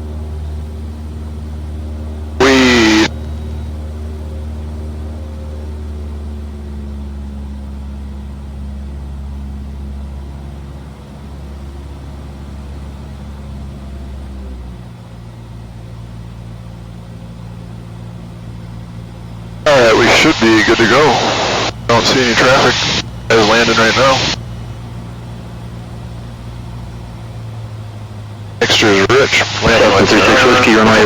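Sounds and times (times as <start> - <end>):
small plane engine and propeller: 0.0 - 2.4, 3.1 - 19.6, 24.1 - 31.0.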